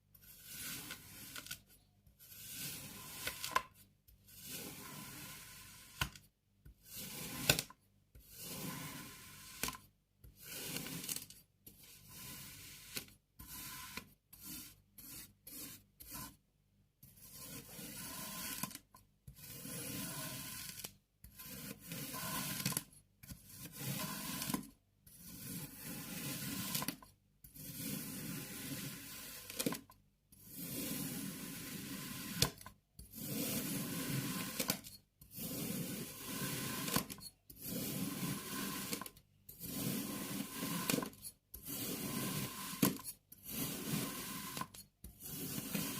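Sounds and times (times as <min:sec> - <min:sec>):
sand being cut and scraped: 0:00.2 - 0:06.0, 0:06.8 - 0:16.4, 0:17.0 - 0:29.8, 0:30.4 - 0:45.9.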